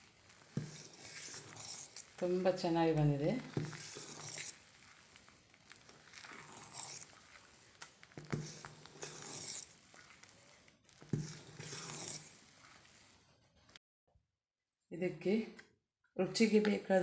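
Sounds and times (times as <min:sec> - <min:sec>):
spoon stirring thick batter: 0:00.0 - 0:13.8.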